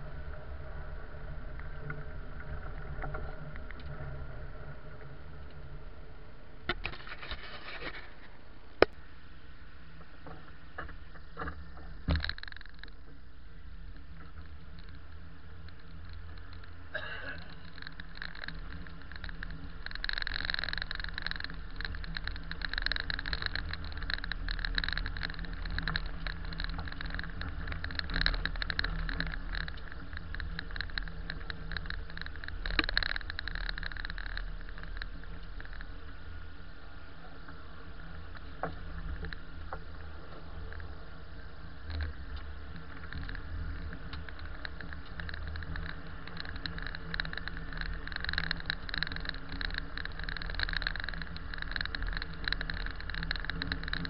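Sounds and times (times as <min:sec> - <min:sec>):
tyres crackling on snow: 0:00.0 - 0:54.0
vehicle engine and road rumble: 0:00.0 - 0:54.0.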